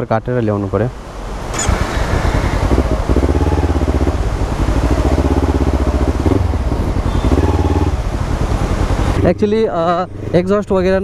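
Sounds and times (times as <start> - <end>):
motorcycle engine at low revs: 1.3 - 10.4.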